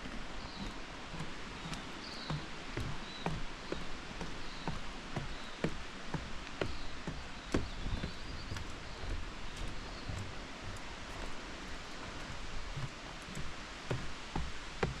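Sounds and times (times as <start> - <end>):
footsteps walking: 0.0 - 15.0
steady bush hiss: 0.0 - 15.0.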